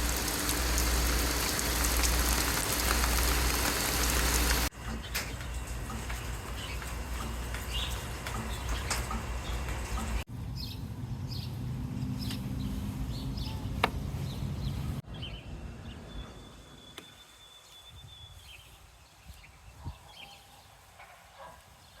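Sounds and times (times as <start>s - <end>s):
birds chirping: 0.0s - 20.8s.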